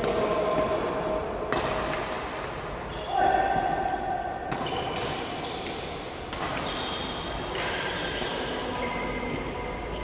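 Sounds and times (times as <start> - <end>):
racket hitting shuttlecock: 0.0 - 9.8
sports hall general noise: 0.0 - 10.0.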